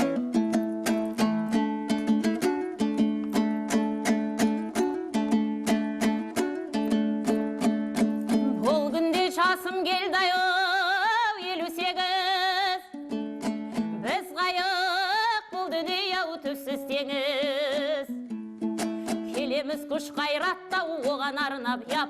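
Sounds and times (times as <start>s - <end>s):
fast lute strumming: 0.0s - 22.0s.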